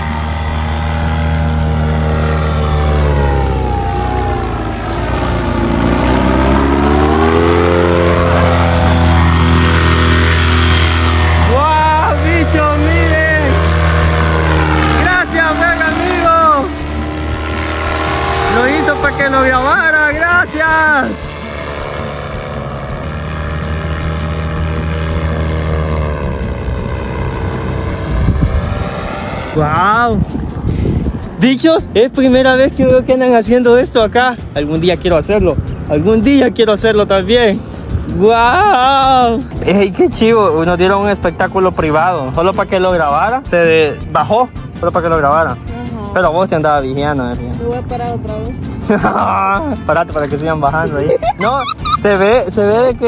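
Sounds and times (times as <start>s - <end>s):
paramotor engine and propeller droning: 0.0s - 53.0s.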